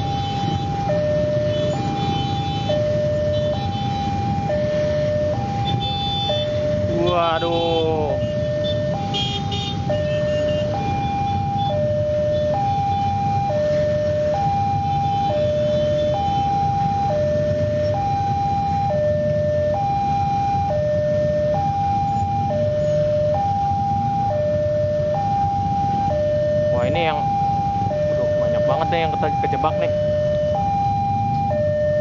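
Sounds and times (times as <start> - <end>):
level crossing two-tone alarm: 0.0 - 32.0.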